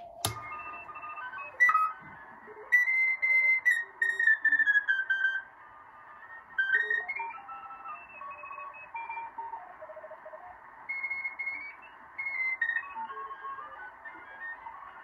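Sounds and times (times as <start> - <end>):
radio band hiss: 0.0 - 15.0.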